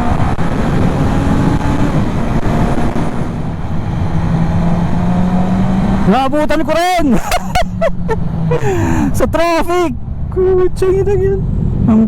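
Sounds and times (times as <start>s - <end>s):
wind rumble on microphone: 0.0s - 6.6s, 7.9s - 12.0s.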